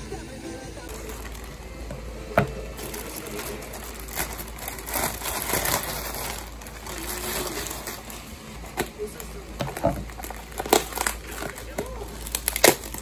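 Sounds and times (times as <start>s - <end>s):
plastic bag tearing: 0.9s - 13.0s
plastic rustling and crackling: 0.9s - 13.0s.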